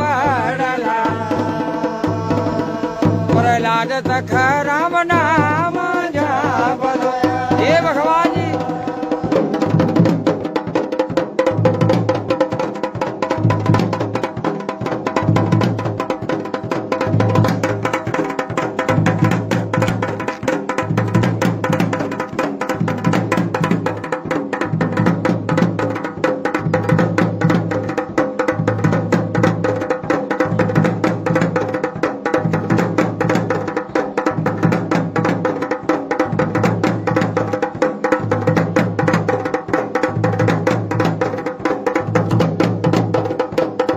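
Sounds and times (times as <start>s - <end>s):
folk drums fast rhythm: 0.0s - 43.9s.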